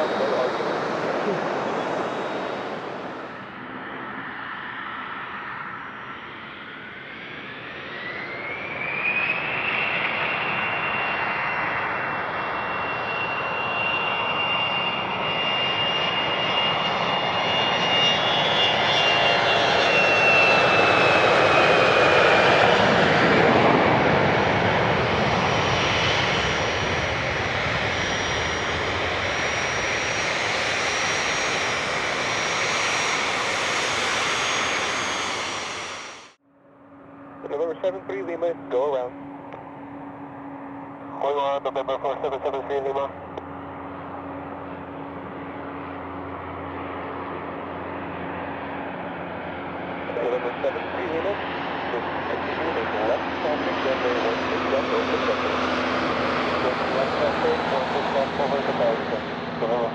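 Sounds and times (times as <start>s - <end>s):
jet aircraft passing: 0.0s - 59.9s.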